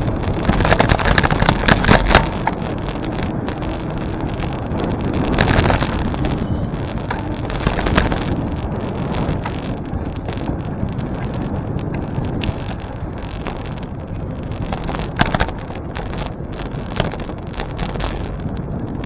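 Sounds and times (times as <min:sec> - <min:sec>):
road noise rushing: 0:00.0 - 0:19.0
wind buffeting microphone: 0:00.0 - 0:19.0.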